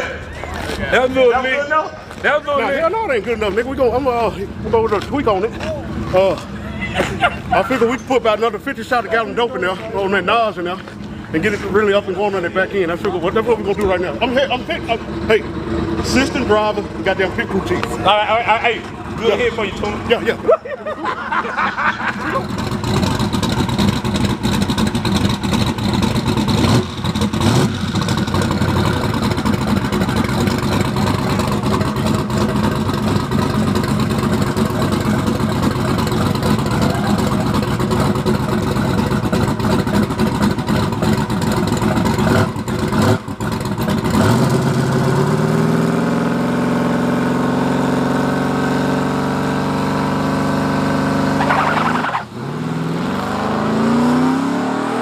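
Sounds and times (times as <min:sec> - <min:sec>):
drag car engine revving: 0:07.3 - 0:20.5, 0:21.8 - 0:55.0.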